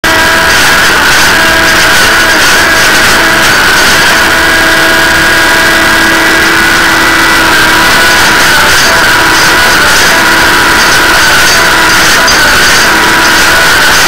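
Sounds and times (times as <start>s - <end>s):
high whining tones: 0.0s - 14.0s
track machine engine drone: 0.0s - 14.0s.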